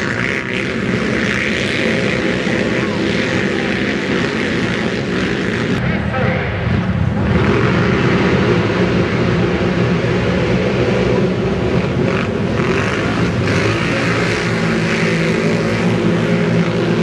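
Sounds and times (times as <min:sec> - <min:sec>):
quad engines accelerating: 0:00.0 - 0:17.0.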